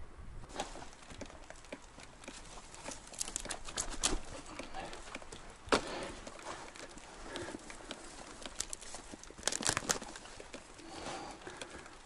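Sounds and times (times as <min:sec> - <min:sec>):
handling feathers crackling: 0:00.5 - 0:12.0.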